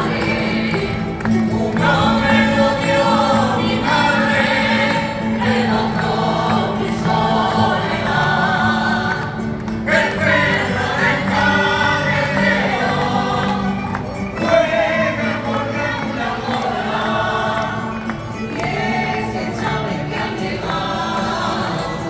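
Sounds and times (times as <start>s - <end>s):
group singing over loudspeakers: 0.0s - 22.0s.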